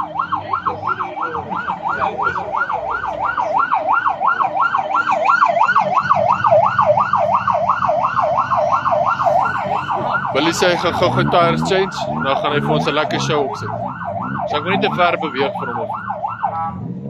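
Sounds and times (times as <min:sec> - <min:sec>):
electronic siren fast yelp: 0:00.0 - 0:16.8.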